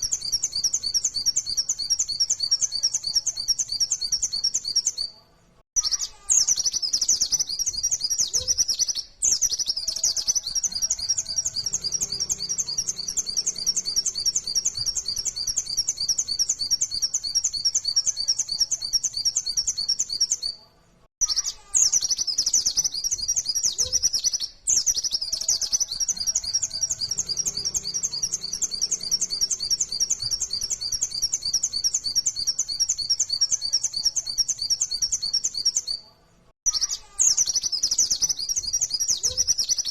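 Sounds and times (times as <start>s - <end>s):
bird singing rapid high chirps: 0.0s - 5.2s, 5.8s - 20.6s, 21.2s - 39.9s.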